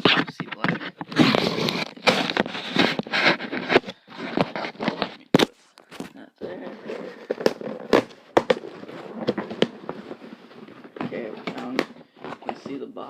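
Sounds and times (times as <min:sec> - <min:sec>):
plastic and cardboard rustling: 0:00.0 - 0:13.0.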